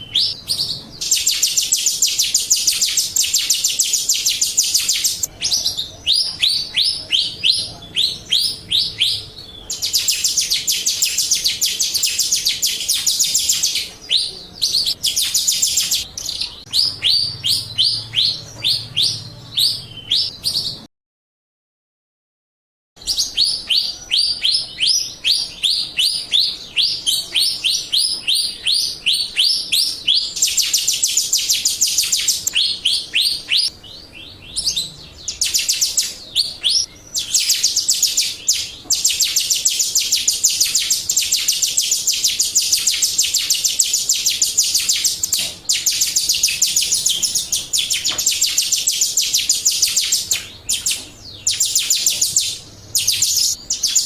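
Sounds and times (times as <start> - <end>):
bird rapid chattering: 0.0 - 20.8, 23.0 - 54.0
high down-slurred bird whistles: 0.0 - 20.9, 23.0 - 33.8, 34.4 - 54.0.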